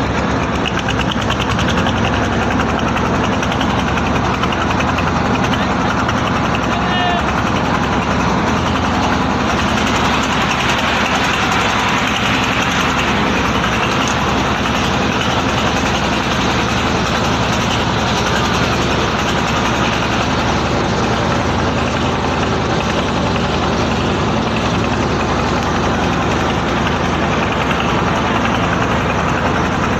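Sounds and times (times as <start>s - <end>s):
boat engine chugging: 0.0s - 29.9s.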